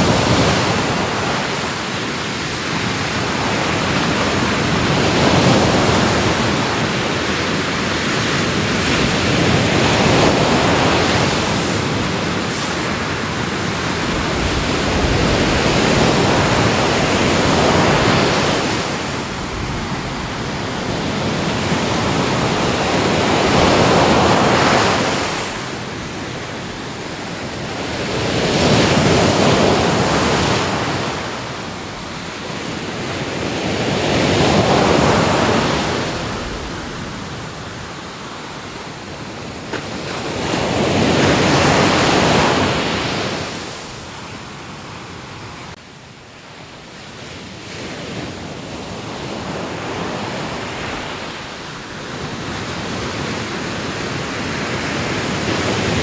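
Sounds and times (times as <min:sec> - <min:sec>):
waves breaking and washing in: 0:00.0 - 0:56.0.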